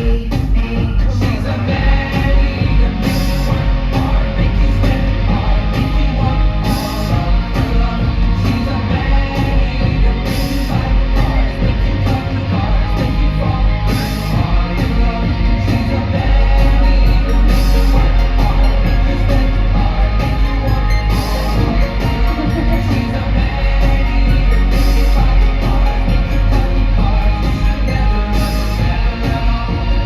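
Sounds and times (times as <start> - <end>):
loud rock music: 0.0 - 30.0.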